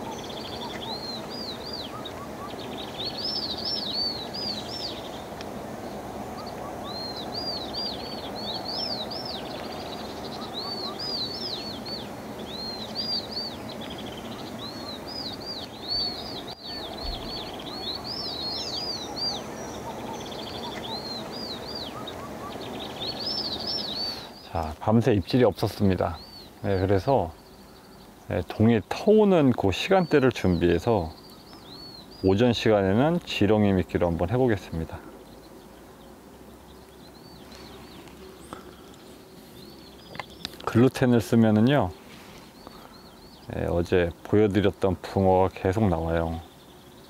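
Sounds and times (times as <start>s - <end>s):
small birds chirping: 0.0s - 47.0s
steady background hiss: 0.0s - 47.0s.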